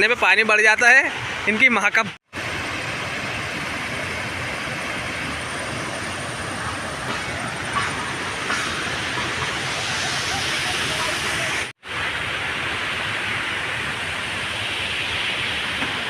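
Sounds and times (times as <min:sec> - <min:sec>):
heavy rain: 0:02.3 - 0:16.0.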